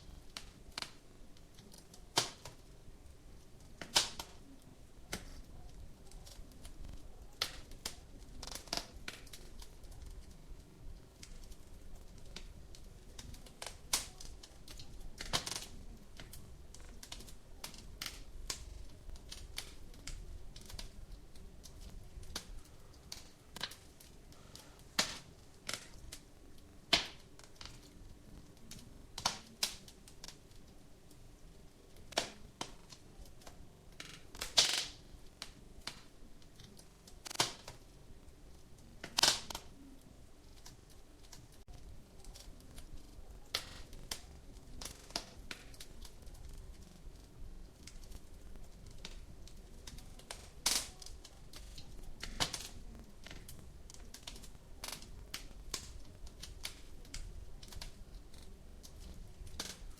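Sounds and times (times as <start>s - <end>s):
sharp pops and snaps: 0.0s - 2.7s, 3.4s - 59.9s
faint steady hiss: 0.0s - 59.9s
wood fire crackling: 0.0s - 59.9s.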